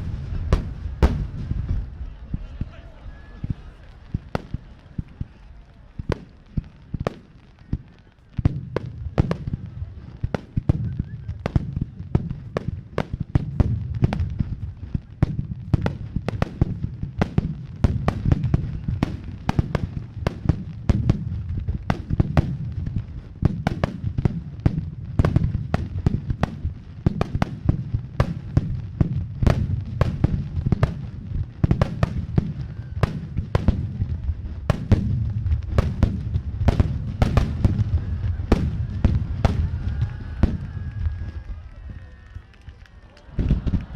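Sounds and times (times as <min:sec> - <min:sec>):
low rumble of booms: 0:00.0 - 0:02.8, 0:08.5 - 0:41.7.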